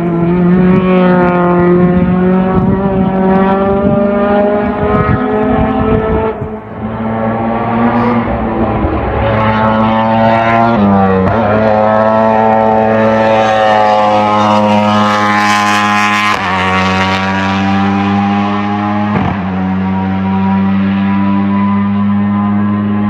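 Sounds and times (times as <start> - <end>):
racing engine at full throttle: 0.0 - 23.0.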